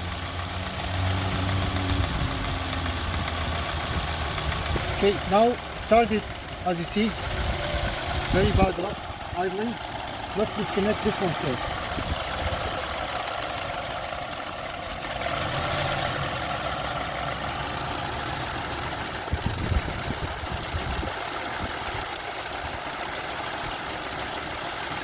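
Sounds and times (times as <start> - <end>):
car engine idling roughly: 0.0 - 25.0.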